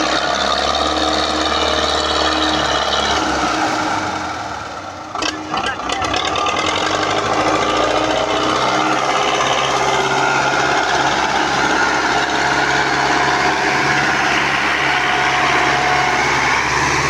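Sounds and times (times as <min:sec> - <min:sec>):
diesel tractor engine clattering: 0:00.0 - 0:17.0
faint engine whine: 0:00.0 - 0:17.0.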